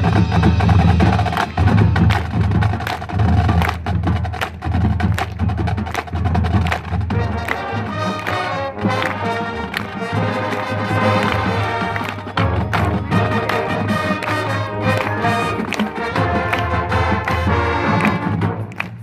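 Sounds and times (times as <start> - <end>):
marching band music: 0.0 - 19.0
sharp percussion strikes: 0.0 - 19.0.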